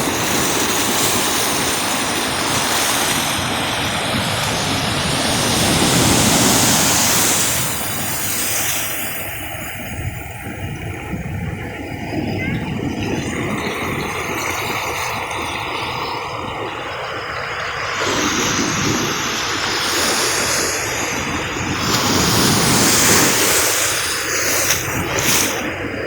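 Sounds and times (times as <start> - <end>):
surf breaking on a beach: 0.0 - 26.0.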